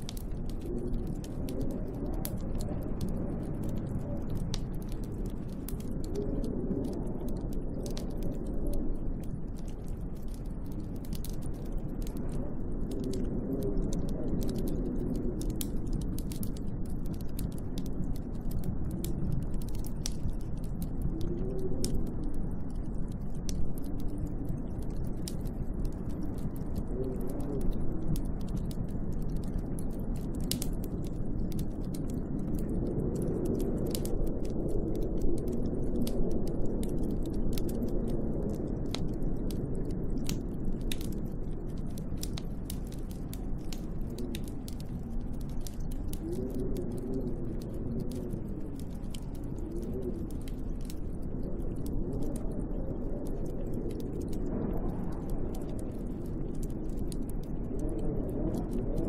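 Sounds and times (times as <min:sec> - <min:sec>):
light ticks and crackles: 0:00.0 - 0:59.0
snowstorm wind gusting: 0:00.0 - 0:59.0.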